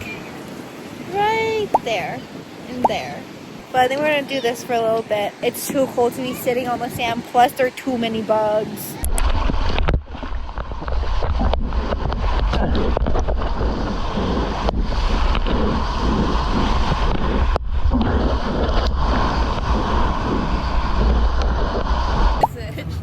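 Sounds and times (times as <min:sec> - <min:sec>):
ocean surf: 0:00.0 - 0:23.0
wind buffeting microphone: 0:00.0 - 0:23.0.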